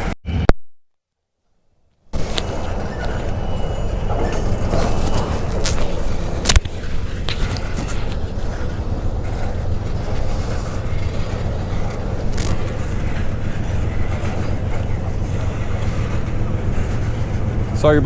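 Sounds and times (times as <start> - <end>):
train rumbling past: 2.1 - 18.0.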